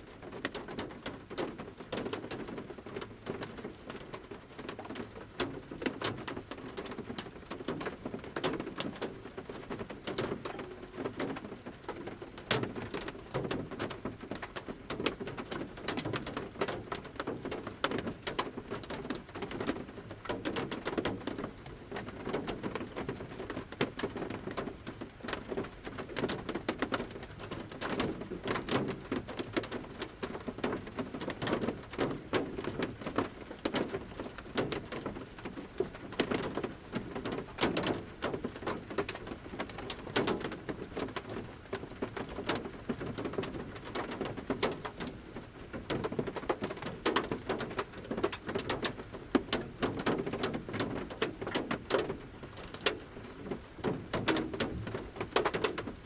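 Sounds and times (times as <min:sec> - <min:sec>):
raindrops tapping on van roof: 0:00.0 - 0:56.0
soft rain patter: 0:00.0 - 0:56.0.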